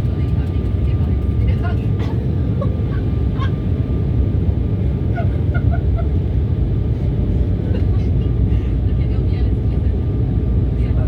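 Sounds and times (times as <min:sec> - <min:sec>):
jet airliner low rumble: 0:00.0 - 0:11.0.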